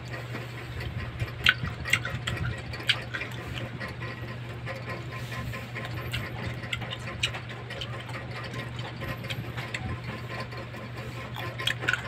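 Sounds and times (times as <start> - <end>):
chewing grapes: 0.0 - 12.0
steady low hum: 0.0 - 12.0.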